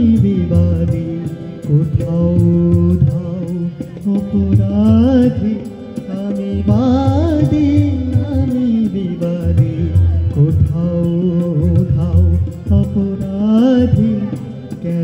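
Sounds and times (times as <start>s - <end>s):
harmonium: 0.0s - 15.0s
person singing: 0.0s - 15.0s
tabla strokes: 0.0s - 15.0s.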